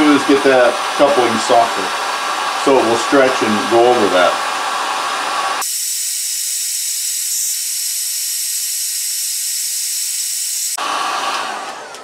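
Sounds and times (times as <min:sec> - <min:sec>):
heat gun hissing: 0:00.0 - 0:12.0.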